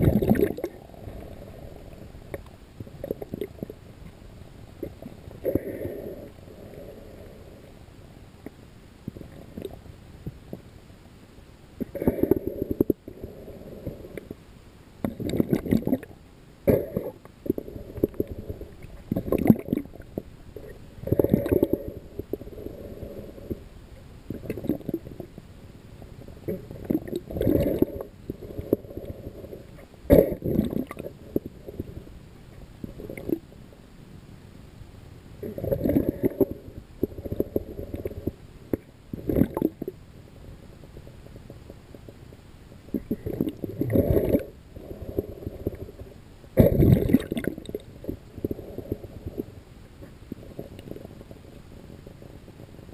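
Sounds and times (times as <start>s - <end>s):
muffled underwater sloshing: 0.0s - 10.7s, 15.0s - 34.0s, 35.3s - 52.9s.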